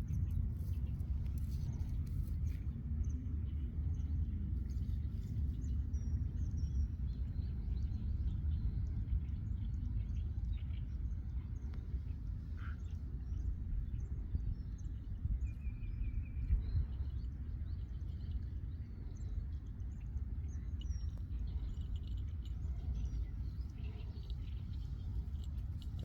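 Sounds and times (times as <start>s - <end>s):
wind buffeting microphone: 3.5s - 26.0s.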